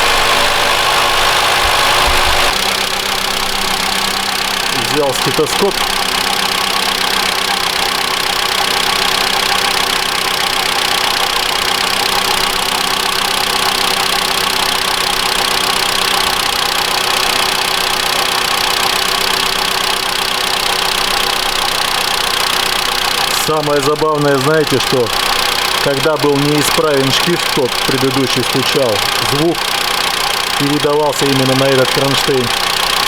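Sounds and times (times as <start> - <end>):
car engine at fast idle: 0.0 - 33.0.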